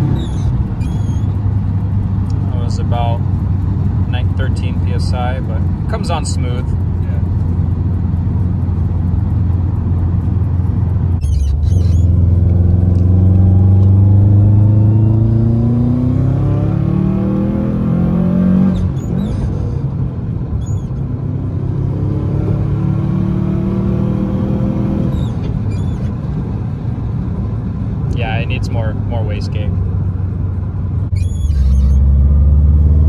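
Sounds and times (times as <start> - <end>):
high chirps at gear changes: 0.0 - 22.8, 23.5 - 26.5, 31.0 - 32.4
car engine accelerating: 0.0 - 33.0.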